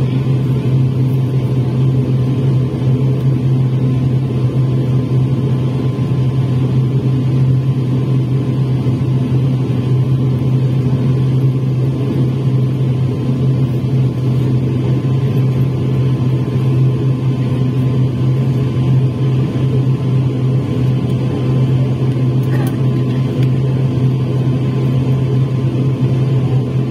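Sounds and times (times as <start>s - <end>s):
turboprop engine drone in cabin: 0.0s - 26.9s.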